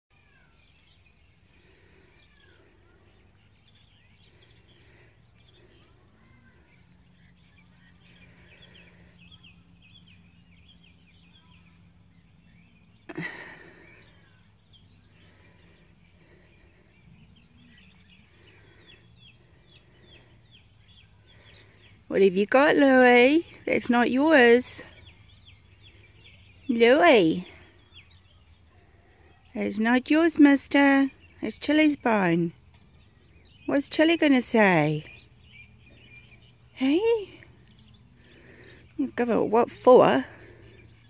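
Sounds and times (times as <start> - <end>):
small birds chirping: 0.1 - 41.0.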